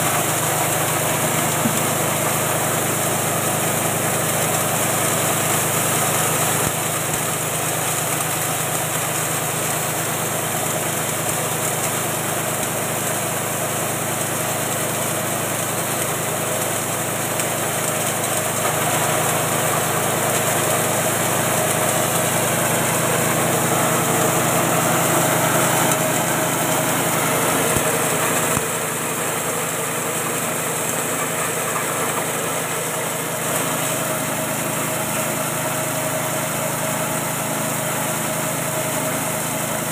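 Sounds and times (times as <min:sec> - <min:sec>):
grass being chopped in mill: 0:00.0 - 0:39.9
small engine running under load: 0:00.0 - 0:39.9.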